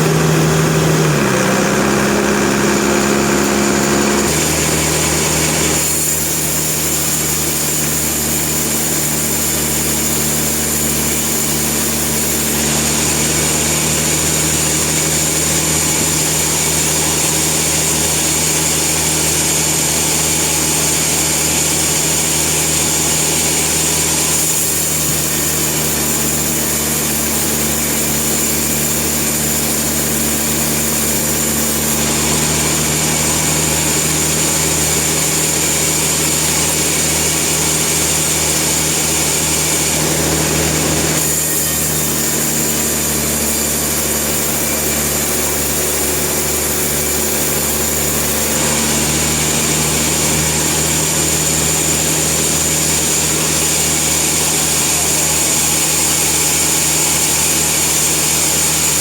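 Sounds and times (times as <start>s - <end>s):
engine droning: 0.0s - 59.0s
saw hissing: 0.0s - 59.0s.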